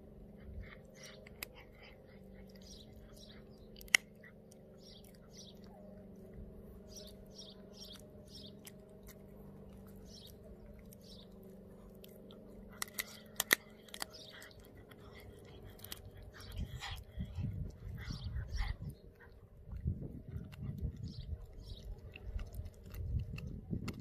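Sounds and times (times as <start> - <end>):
dog chewing bone: 0.2 - 24.0.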